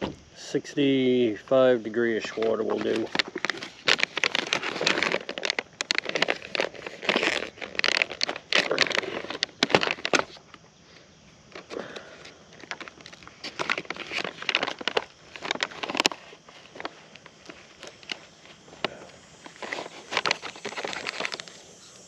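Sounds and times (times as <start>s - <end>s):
foil pouch crinkling: 2.2s - 10.6s, 11.5s - 22.0s.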